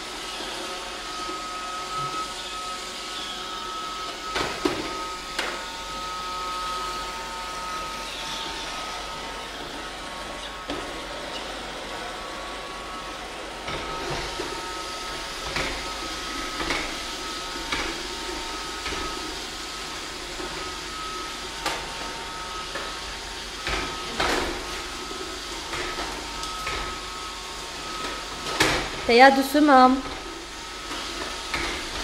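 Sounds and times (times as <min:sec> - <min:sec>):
robot vacuum whirring: 0:00.0 - 0:32.0.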